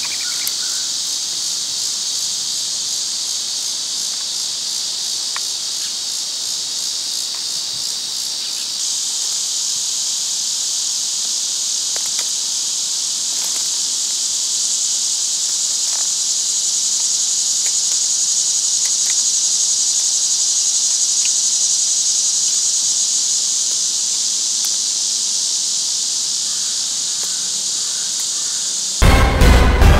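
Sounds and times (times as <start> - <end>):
insect chorus buzzing: 0.0 - 29.1.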